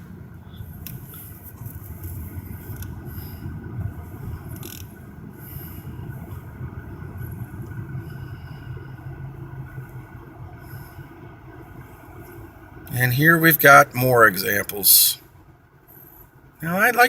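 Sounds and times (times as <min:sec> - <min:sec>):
car engine rumble: 0:00.0 - 0:17.0
road noise inside cabin: 0:00.0 - 0:17.0.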